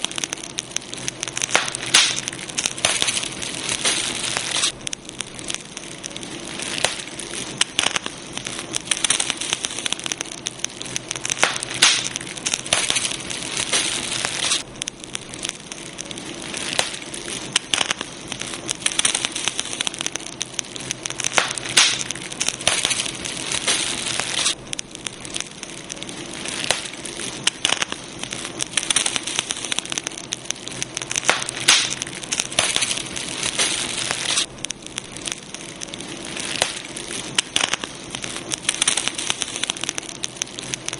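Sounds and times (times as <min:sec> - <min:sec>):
campfire wood crackling and popping: 0:00.0 - 0:40.9.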